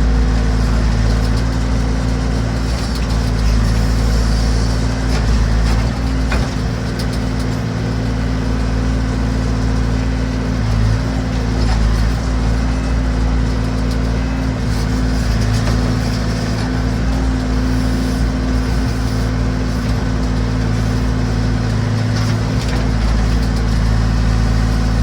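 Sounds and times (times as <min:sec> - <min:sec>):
backhoe engine running: 0:00.0 - 0:25.0.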